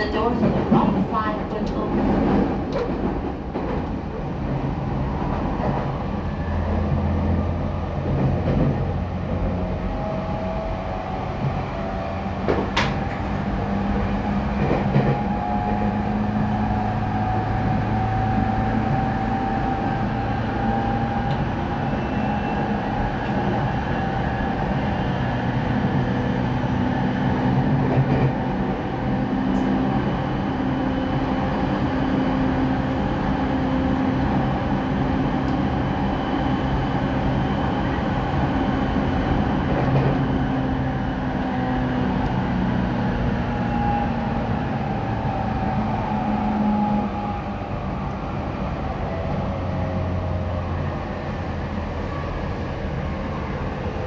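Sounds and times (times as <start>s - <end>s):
train wheel and rail rumble: 0.0s - 54.0s.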